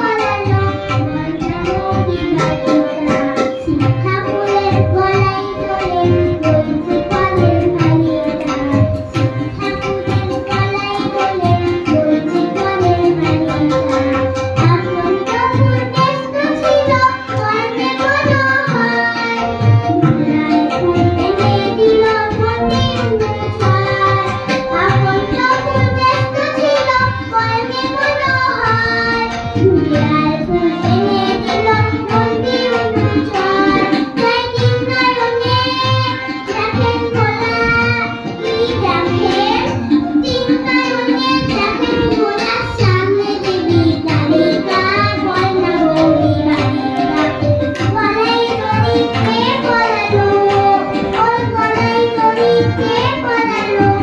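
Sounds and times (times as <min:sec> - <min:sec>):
electronic keyboard: 0:00.0 - 0:54.0
girl singing: 0:00.0 - 0:54.0
harmonium: 0:00.0 - 0:54.0
tabla: 0:00.0 - 0:54.0.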